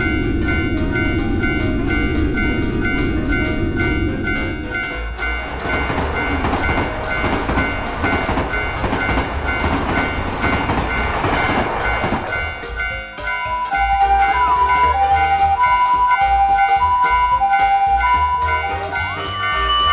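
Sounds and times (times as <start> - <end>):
railroad crossing bell ringing: 0.0 - 19.9
train passing: 0.0 - 19.9.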